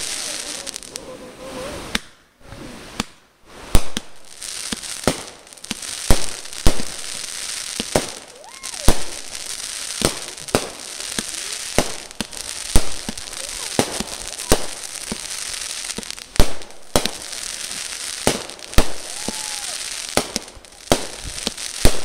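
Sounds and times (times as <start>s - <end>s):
firework bangs: 0.0s - 22.0s
hissing crackle of sparks: 0.0s - 22.0s.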